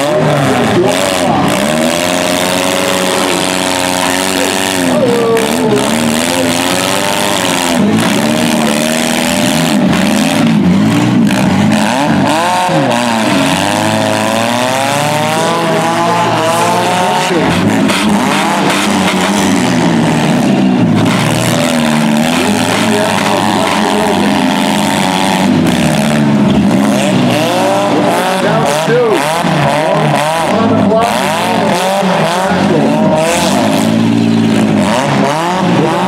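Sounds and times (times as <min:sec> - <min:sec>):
engines revving up and down: 0:00.0 - 0:36.0.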